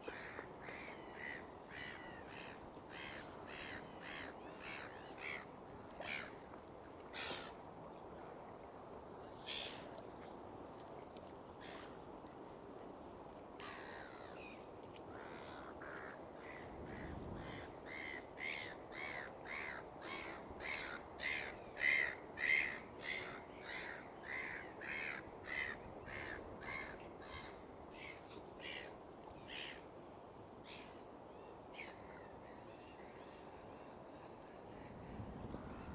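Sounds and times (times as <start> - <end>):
low background hiss: 0.0 - 35.9.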